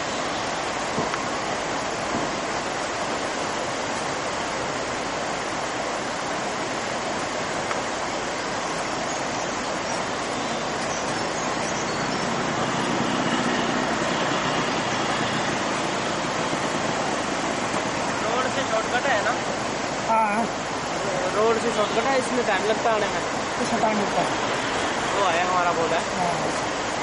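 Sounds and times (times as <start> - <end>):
river rapids rushing: 0.0 - 27.0.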